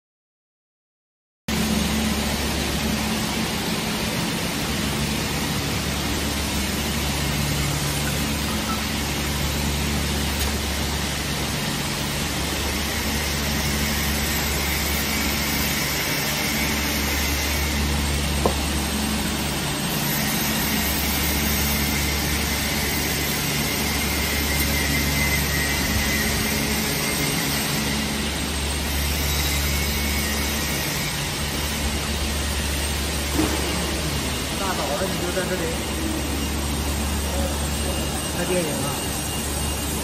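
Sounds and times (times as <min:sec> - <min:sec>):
machine humming: 0:01.5 - 0:40.0.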